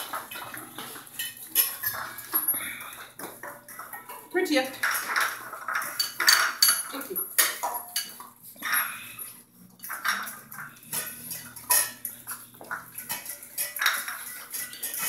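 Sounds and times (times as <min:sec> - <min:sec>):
metal bowls clinking on tile: 0:00.0 - 0:15.0.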